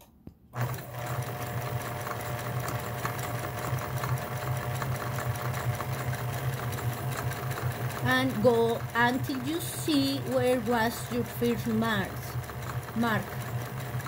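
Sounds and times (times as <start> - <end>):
sewing machine stitching: 0.6 - 14.0.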